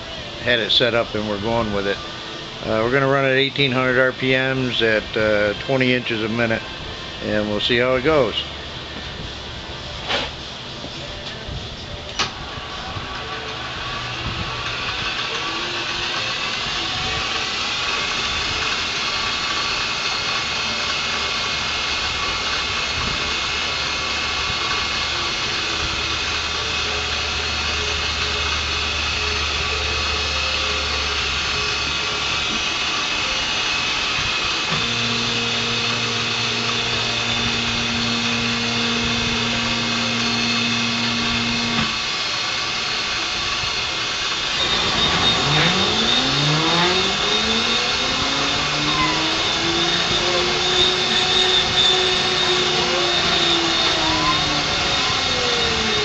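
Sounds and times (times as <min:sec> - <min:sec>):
low hum: 0:00.0 - 0:56.0
milling machine cutting metal: 0:00.0 - 0:56.0
rising whine: 0:00.0 - 0:56.0.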